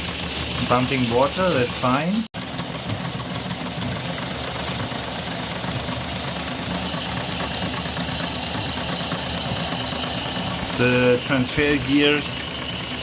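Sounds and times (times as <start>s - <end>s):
model steam engine clattering: 0.0s - 13.0s
water pump working: 0.0s - 13.0s.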